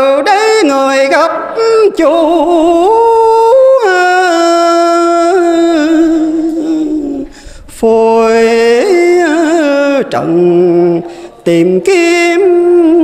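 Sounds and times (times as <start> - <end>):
man chanting into microphone: 0.0 - 13.0.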